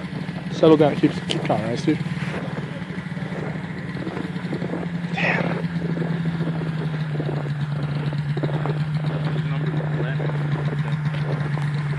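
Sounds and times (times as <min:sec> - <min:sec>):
snowmobile engine idling: 0:00.0 - 0:11.9.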